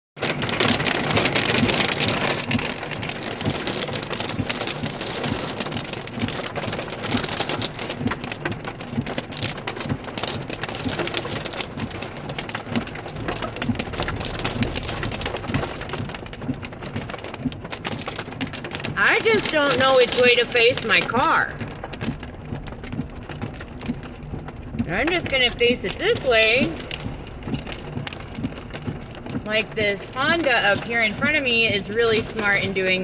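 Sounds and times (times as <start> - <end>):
heavy rain and hail on car roof: 0.2 - 33.0.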